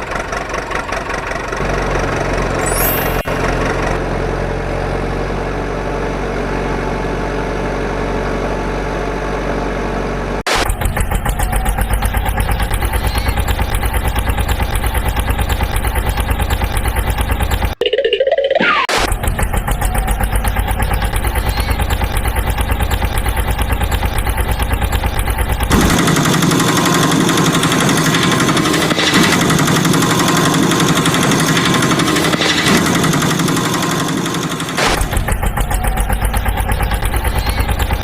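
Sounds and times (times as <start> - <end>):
rattling engine: 0.0 - 17.8, 19.0 - 38.0.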